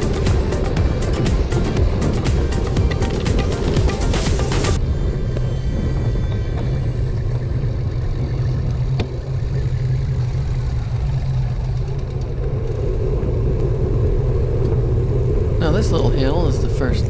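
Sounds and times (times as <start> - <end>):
road and traffic noise: 0.0 - 17.0
wind rumble on microphone: 0.0 - 17.0.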